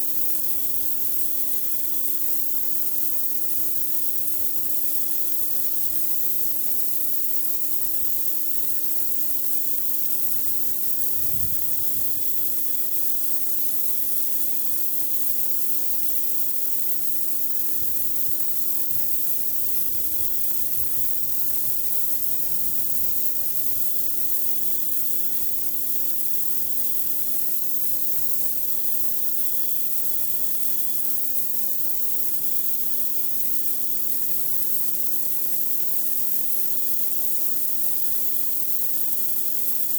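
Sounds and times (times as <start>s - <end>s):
pressure washer spraying concrete: 0.0s - 39.9s.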